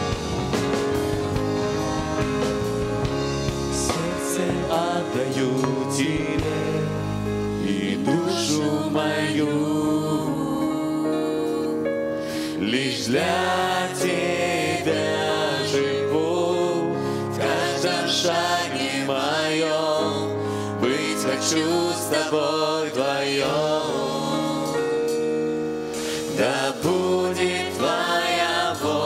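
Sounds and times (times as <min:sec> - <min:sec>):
instrumental accompaniment: 0:00.0 - 0:29.0
several voices singing: 0:03.7 - 0:11.8, 0:12.4 - 0:25.4, 0:26.0 - 0:29.0.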